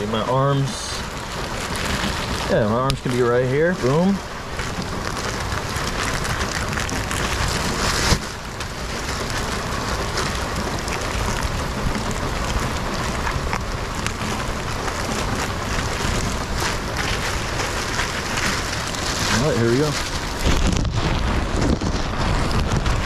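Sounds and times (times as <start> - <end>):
plastic bag crinkling and rustling: 0.0 - 23.0
rain hissing: 0.0 - 23.0.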